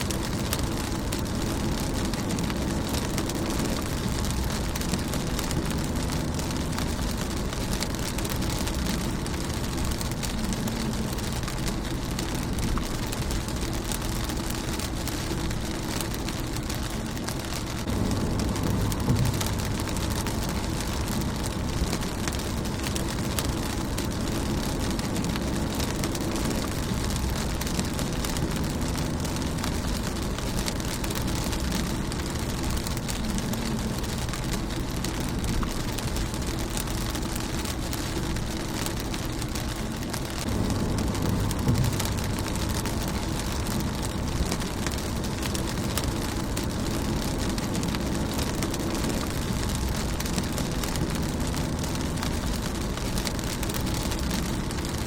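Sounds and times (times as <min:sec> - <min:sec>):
low rumble: 0:00.0 - 0:55.0
rain on car windscreen: 0:00.0 - 0:55.0.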